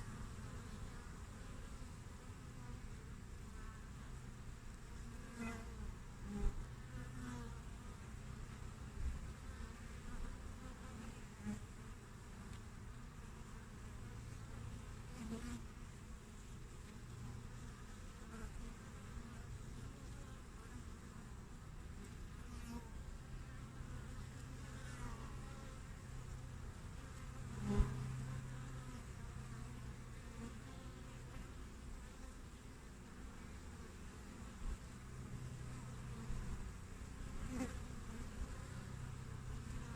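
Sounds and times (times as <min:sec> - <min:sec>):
bee buzzing past: 0:00.0 - 0:39.9
bees humming at hive: 0:00.0 - 0:39.9.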